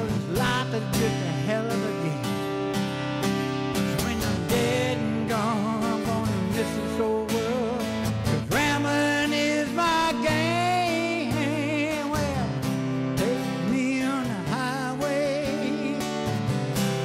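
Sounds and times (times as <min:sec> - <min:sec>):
man singing: 0:00.0 - 0:02.7, 0:03.6 - 0:17.0
strummed acoustic guitar: 0:00.0 - 0:17.0.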